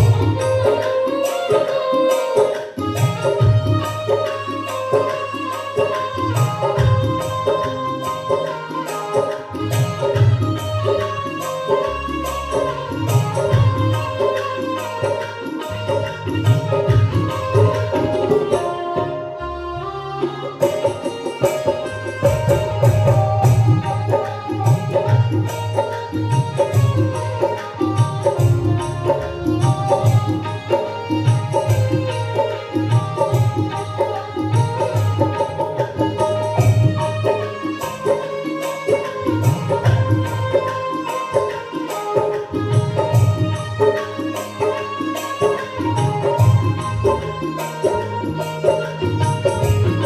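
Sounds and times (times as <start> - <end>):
devotional music over sound system: 0.0 - 50.0
tabla drumming: 0.0 - 50.0.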